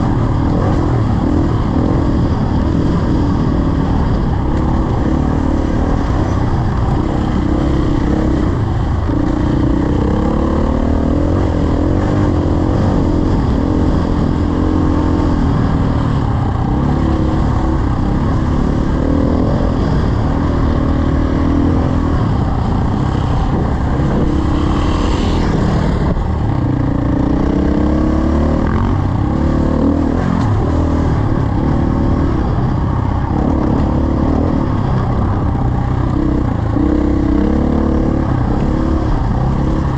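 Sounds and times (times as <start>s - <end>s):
dirt bike engine: 0.0s - 39.9s
wind rumble on microphone: 0.0s - 39.9s.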